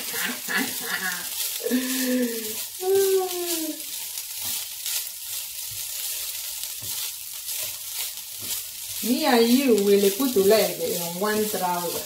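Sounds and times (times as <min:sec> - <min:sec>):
rice sizzling in a frying pan: 0:00.0 - 0:12.0
wooden spatula scraping a pan: 0:00.0 - 0:12.0.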